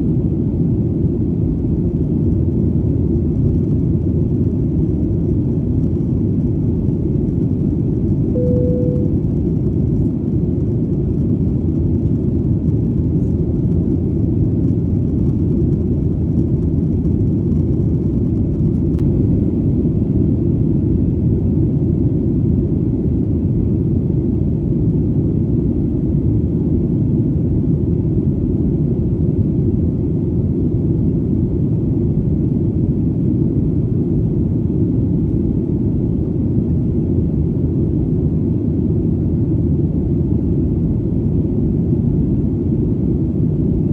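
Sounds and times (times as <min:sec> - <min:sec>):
airplane engine rumble: 0:00.0 - 0:43.9.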